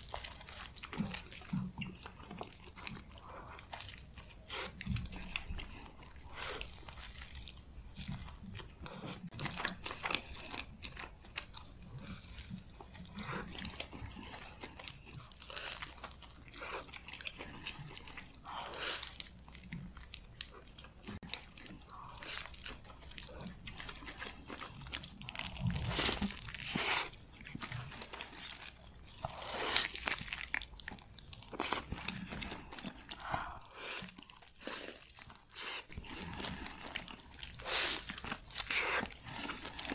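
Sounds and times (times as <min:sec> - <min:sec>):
person chewing wet mouth sounds: 0:00.0 - 0:39.9.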